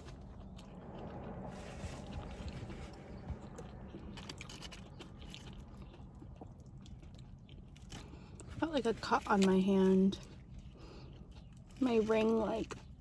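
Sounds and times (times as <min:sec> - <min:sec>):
person chewing food: 0:00.0 - 0:08.6, 0:10.2 - 0:13.0.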